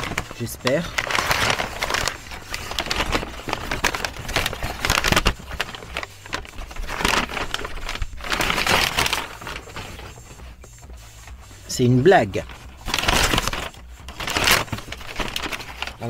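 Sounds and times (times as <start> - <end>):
packing paper rustling and crinkling: 0.0 - 16.0.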